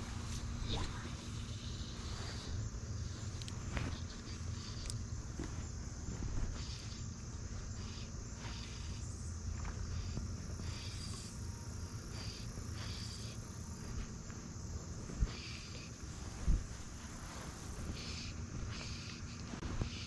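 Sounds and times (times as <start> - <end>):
crickets trilling: 0.0 - 20.0
louder cricket chirps: 0.0 - 20.0.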